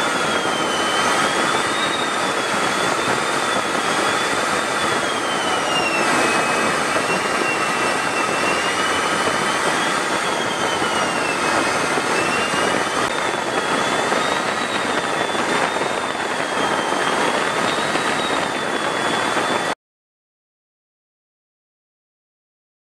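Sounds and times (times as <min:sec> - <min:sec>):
jet engine whine in flight: 0:00.0 - 0:19.8.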